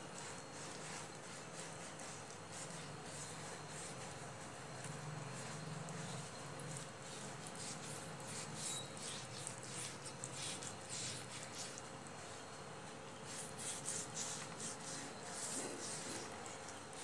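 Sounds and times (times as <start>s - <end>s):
hand smoothing wet clay: 0.0s - 12.3s, 13.3s - 17.0s.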